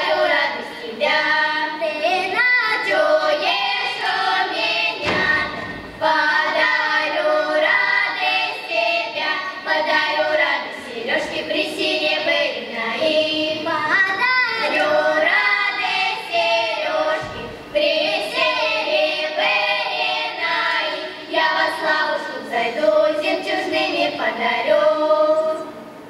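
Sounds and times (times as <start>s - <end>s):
girls singing folk song together: 0.0s - 26.0s.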